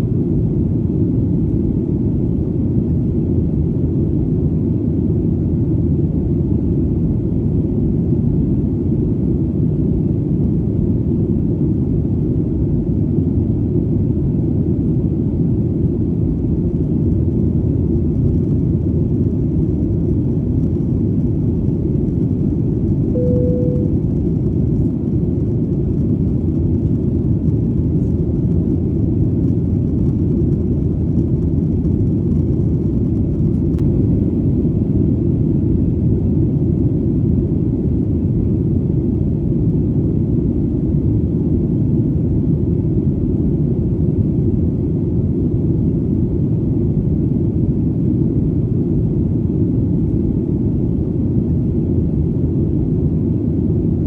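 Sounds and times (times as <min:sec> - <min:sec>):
airplane engine rumble: 0:00.0 - 0:54.0.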